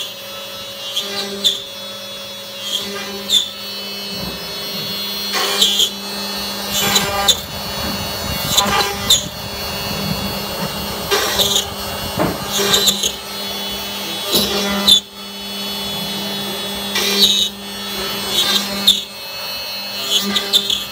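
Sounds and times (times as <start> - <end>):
router bit cutting wood: 0.0 - 20.9
router spindle whine: 0.0 - 20.9.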